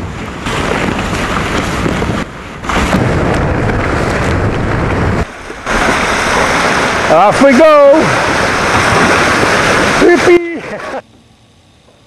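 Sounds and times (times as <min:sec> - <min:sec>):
wind buffeting microphone: 0:00.0 - 0:10.3
water splashing against hulls: 0:00.1 - 0:11.0.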